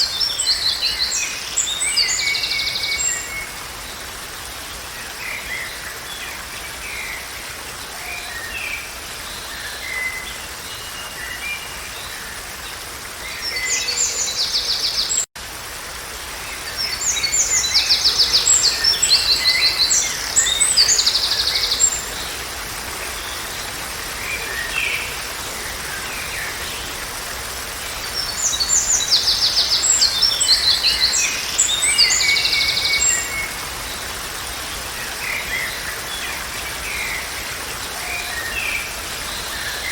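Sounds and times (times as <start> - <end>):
songbirds singing: 0.0 - 15.3, 16.4 - 39.9.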